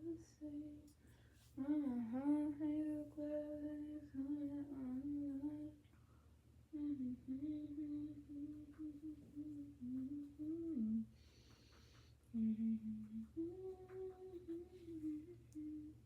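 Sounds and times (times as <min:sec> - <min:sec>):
woman humming a slow tune: 0:00.0 - 0:00.9, 0:01.6 - 0:05.8, 0:06.7 - 0:11.1, 0:12.3 - 0:16.0.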